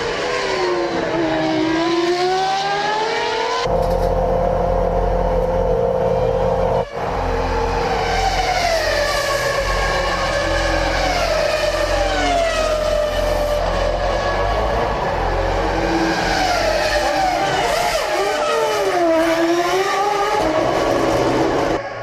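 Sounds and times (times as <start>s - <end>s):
racing car engines at high revs: 0.0s - 22.0s.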